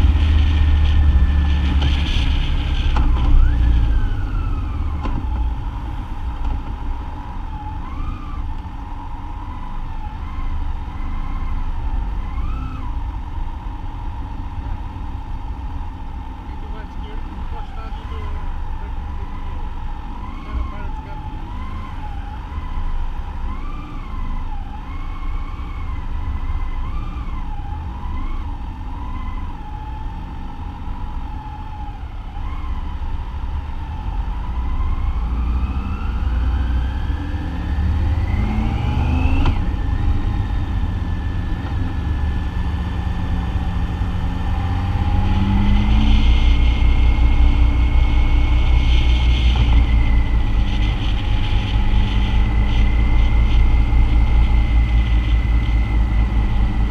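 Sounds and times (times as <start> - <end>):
motorcycle engine rumble: 0.0 - 35.2, 38.2 - 56.9
motorcycle engine whine: 0.0 - 56.9.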